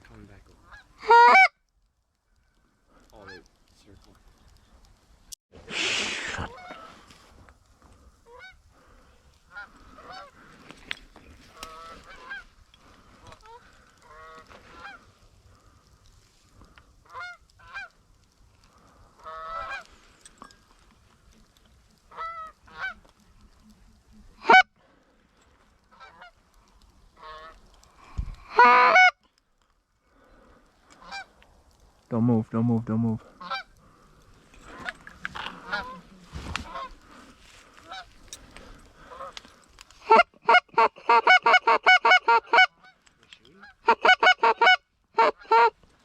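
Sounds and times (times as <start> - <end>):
geese honking and clucking: 0.6 - 1.5, 2.9 - 3.6, 5.8 - 20.1, 21.0 - 29.3, 30.1 - 31.4, 33.2 - 45.8.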